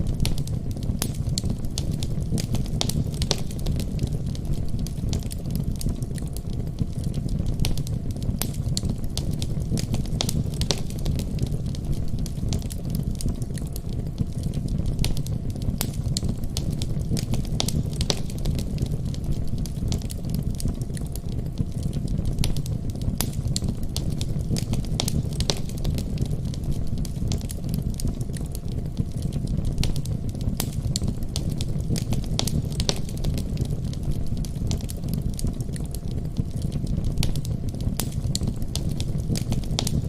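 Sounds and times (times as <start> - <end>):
fire crackling in a fireplace: 0.0 - 40.0.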